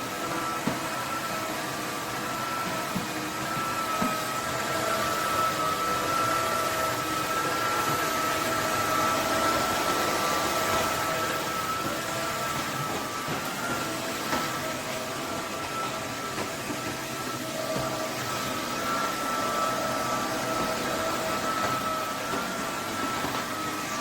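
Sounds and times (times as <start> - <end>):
vacuum cleaner suction: 0.0 - 24.0.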